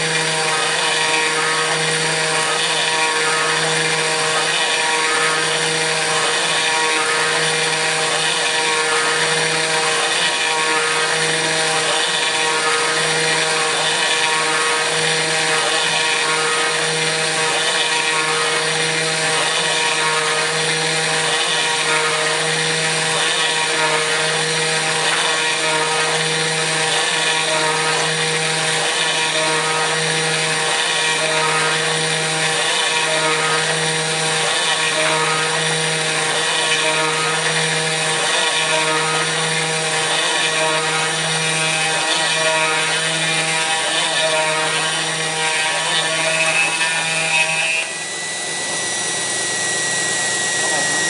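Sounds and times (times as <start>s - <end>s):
router spindle cutting metal: 0.0s - 51.0s.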